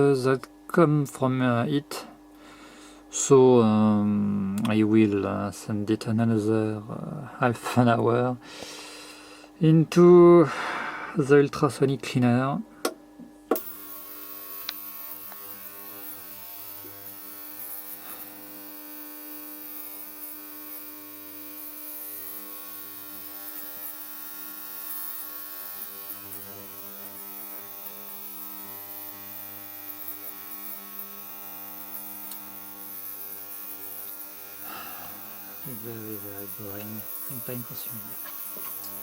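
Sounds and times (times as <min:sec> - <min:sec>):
ultrasonic cleaner hum: 0:00.0 - 0:39.0.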